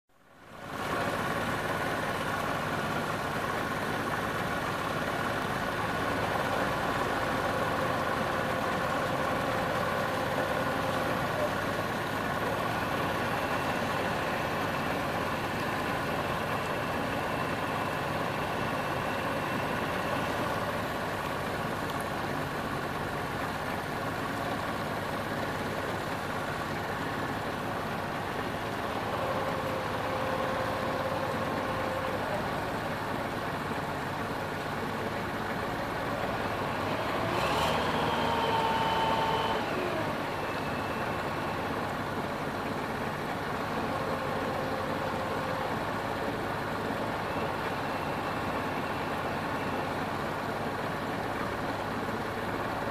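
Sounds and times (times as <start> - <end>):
boat engine running: 0.3 - 52.9.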